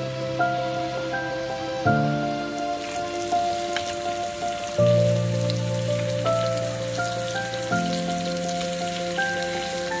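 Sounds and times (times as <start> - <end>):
background music of sustained chords: 0.0 - 10.0
kebabs sizzling in oil: 0.0 - 10.0.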